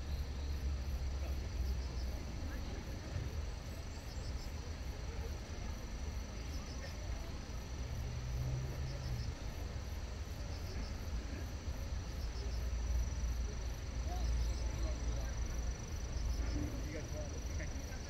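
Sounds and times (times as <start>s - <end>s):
insects chirping: 0.0s - 18.0s
low outdoor rumble: 0.0s - 18.0s.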